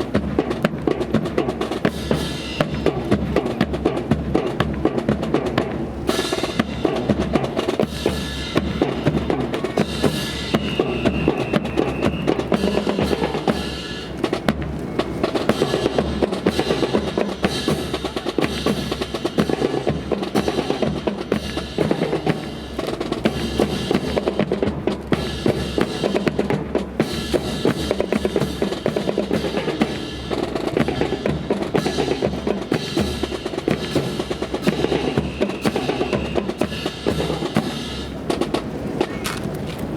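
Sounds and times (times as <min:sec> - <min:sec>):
fast drumming: 0:00.0 - 0:39.9.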